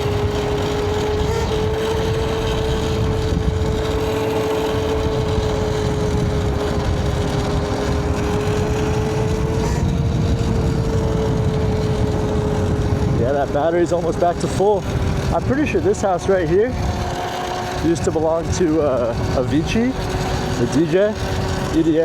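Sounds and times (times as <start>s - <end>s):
electric motor whining: 0.0s - 22.0s
wind and road noise: 0.0s - 22.0s.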